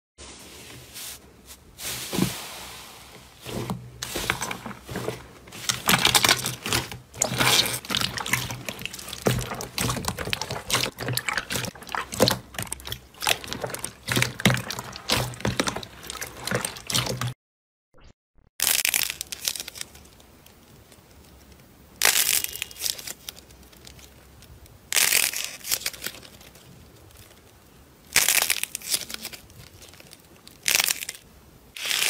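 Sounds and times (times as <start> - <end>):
slime squelching and crackling: 1.8 - 17.4, 18.6 - 31.2.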